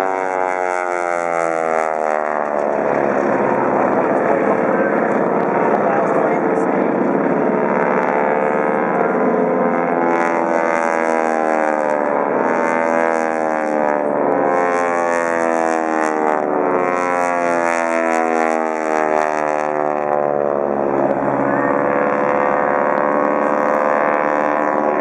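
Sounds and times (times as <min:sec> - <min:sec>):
propeller planes droning overhead: 0:00.0 - 0:25.0.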